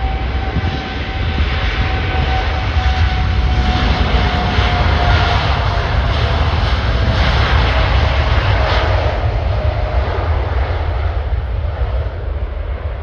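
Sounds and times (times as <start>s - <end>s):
faint engine whine: 0.0s - 13.0s
jet airliner engines roaring: 0.0s - 13.0s.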